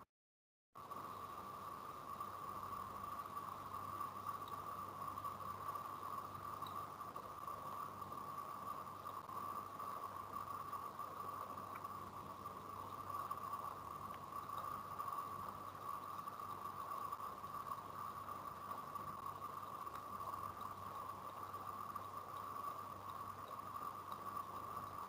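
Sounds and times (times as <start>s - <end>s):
faint low hum: 0.8s - 25.0s
steady background hiss: 0.8s - 25.0s.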